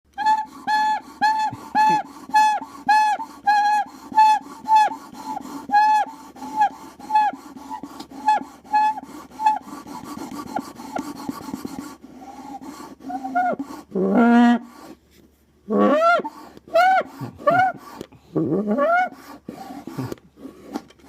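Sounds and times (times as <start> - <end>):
drinking straw squeaking: 0.1 - 15.0, 15.7 - 20.9
low rasp: 0.1 - 21.0.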